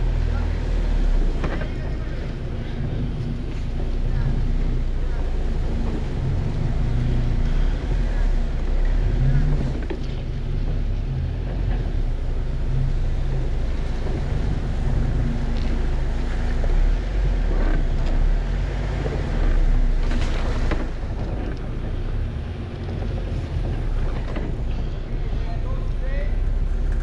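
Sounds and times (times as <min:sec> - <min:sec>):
engine running at low revs: 0:00.0 - 0:27.0
wind buffeting microphone: 0:00.0 - 0:27.0.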